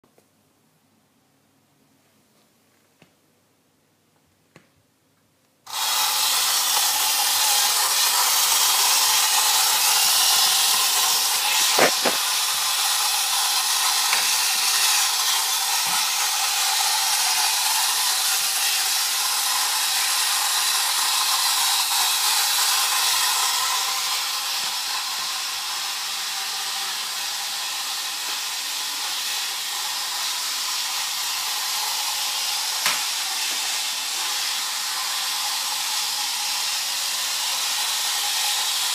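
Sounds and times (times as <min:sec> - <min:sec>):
toy motor whirring: 0:05.7 - 0:38.9.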